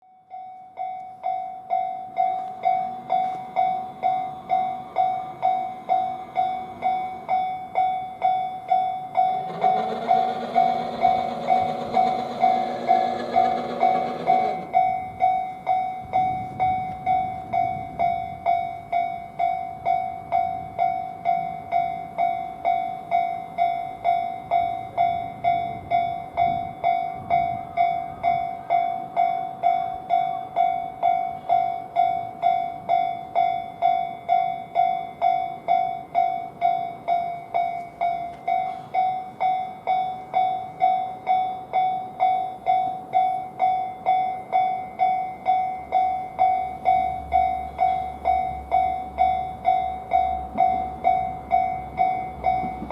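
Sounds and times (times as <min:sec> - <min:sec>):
level crossing alarm ringing: 0:00.0 - 0:52.9.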